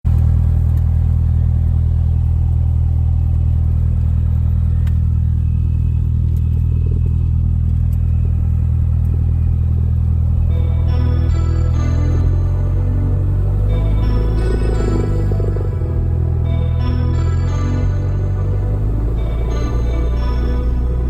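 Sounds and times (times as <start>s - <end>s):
light aircraft engine droning: 0.1s - 21.0s.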